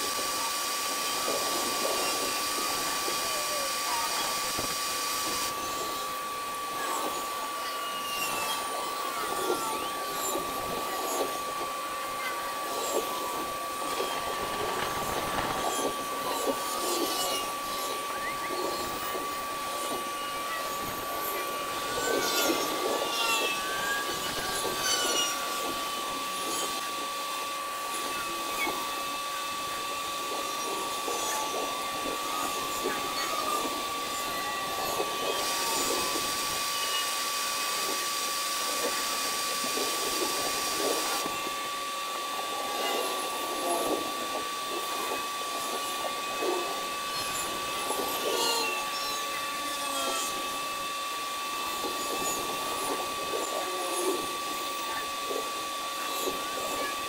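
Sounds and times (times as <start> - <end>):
steady high hum: 0.0 - 57.0.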